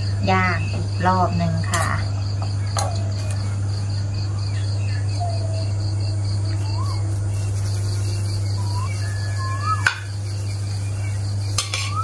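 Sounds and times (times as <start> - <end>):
bird calls: 0.0 - 12.0
crickets chirping: 0.0 - 12.0
steady low hum: 0.0 - 12.0.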